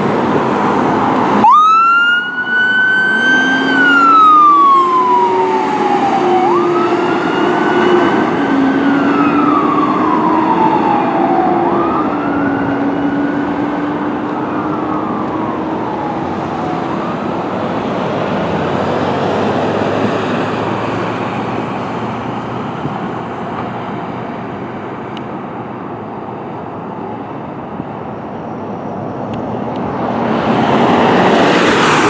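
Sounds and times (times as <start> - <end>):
passing cars: 0.0 - 32.0.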